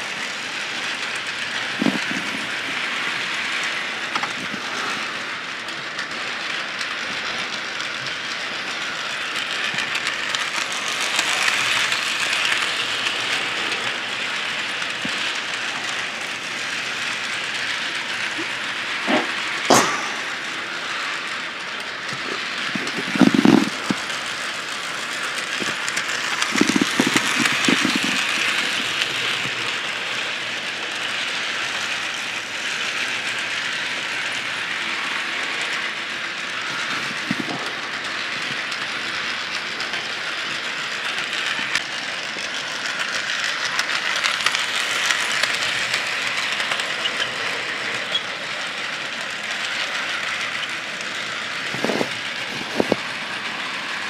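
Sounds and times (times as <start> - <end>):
model train motor whir: 0.0 - 54.0
wheels clicking over rail joints: 0.0 - 54.0.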